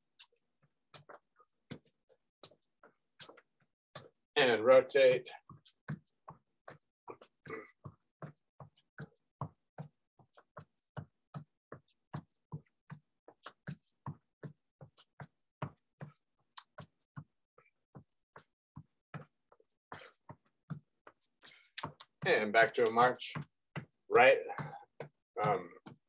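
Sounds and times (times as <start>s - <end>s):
soft rhythmic footfalls: 0.0s - 26.0s.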